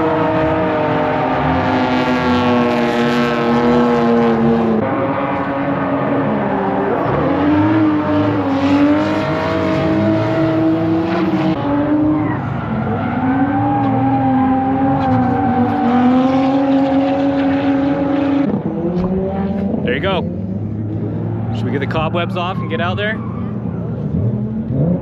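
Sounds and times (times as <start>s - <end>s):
car engines revving hard: 0.0s - 25.0s.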